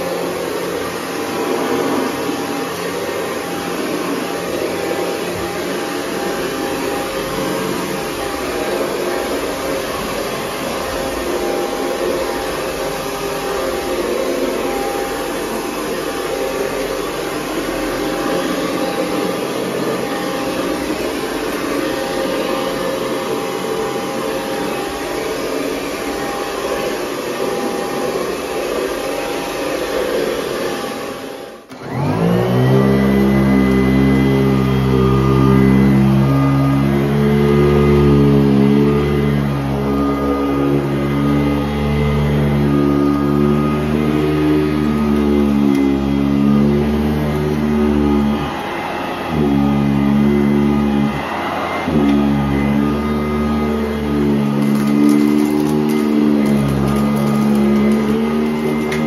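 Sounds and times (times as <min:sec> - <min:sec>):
upright vacuum cleaner on carpet: 0:00.0 - 0:59.0
vacuum motor whine and hum: 0:00.0 - 0:59.0.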